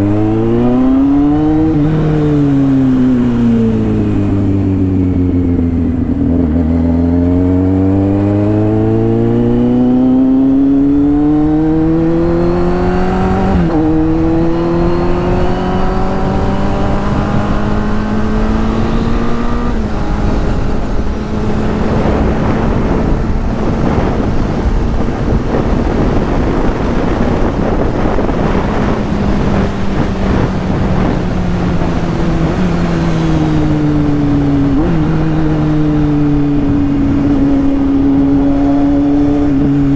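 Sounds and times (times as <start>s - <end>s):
motorcycle engine under load: 0.0s - 39.9s
rushing wind noise: 0.0s - 39.9s.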